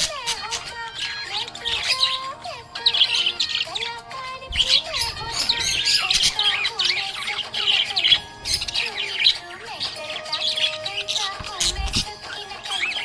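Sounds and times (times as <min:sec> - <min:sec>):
background music with melody: 0:00.0 - 0:13.0
budgerigar chirping: 0:00.0 - 0:13.0.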